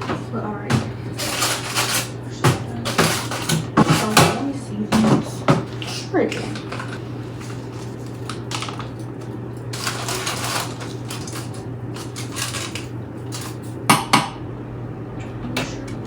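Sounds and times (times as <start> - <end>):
dishes and utensils clattering: 0.0 - 14.1
low appliance hum: 0.0 - 16.0.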